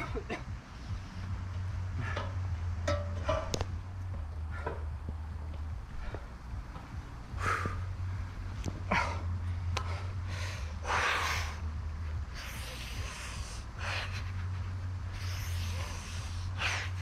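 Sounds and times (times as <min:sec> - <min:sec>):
low hum: 0:00.0 - 0:17.0
man breathing forcefully: 0:00.7 - 0:02.6, 0:04.2 - 0:17.0.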